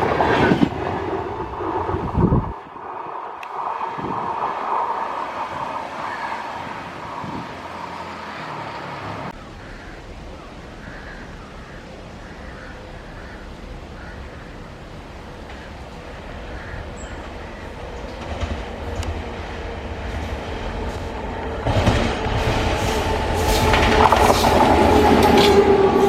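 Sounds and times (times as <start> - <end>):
low train rumble: 0.0 - 26.0
train rushing on rails: 0.0 - 26.0.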